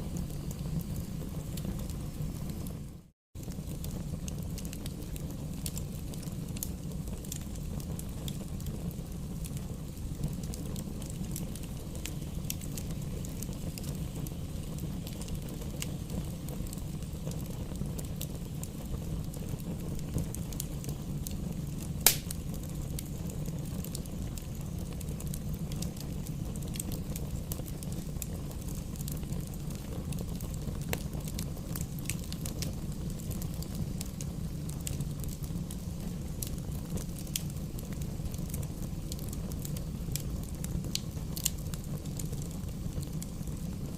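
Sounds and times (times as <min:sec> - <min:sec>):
fire crackles and pops: 0:00.0 - 0:43.9
fire rumbling in fireplace: 0:00.0 - 0:43.9.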